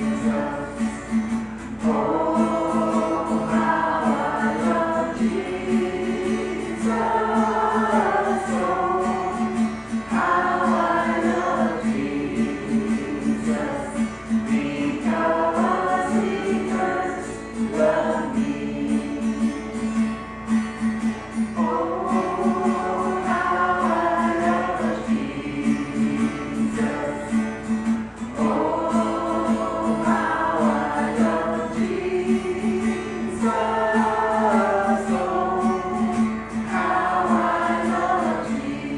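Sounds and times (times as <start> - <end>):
gospel choir singing: 0.0 - 20.2, 21.4 - 38.9.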